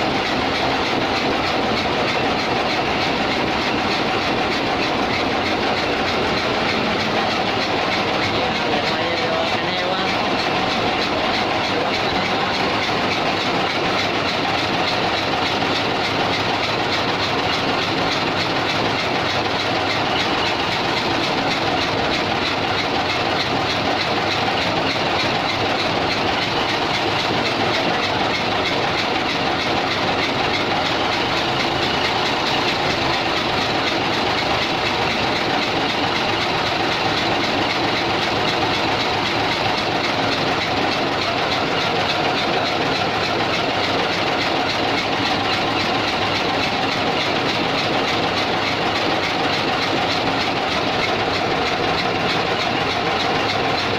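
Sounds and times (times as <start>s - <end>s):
diesel engine running loudly: 0.0s - 53.9s.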